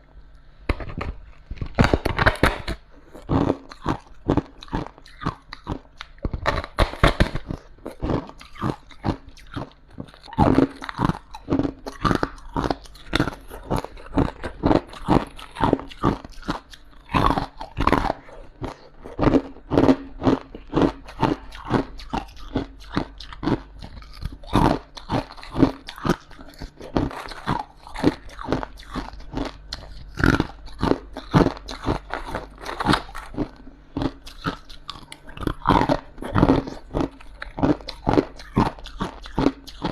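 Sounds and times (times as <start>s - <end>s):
frost being crunched and chewed: 0.7s - 39.9s.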